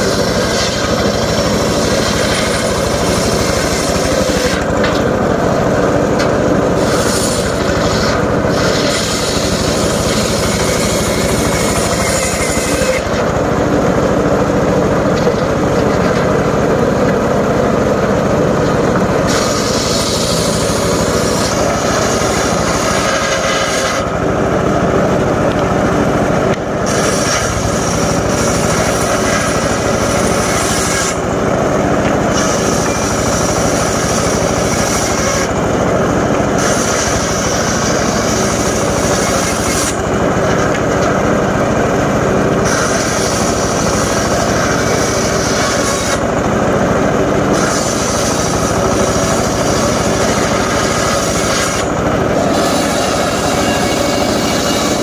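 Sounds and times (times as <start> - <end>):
circular saw cutting wood: 0.0 - 55.0.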